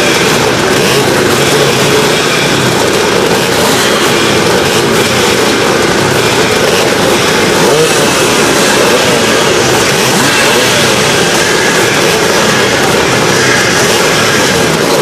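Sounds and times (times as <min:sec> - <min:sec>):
motocross motorcycles revving: 0:00.0 - 0:15.0.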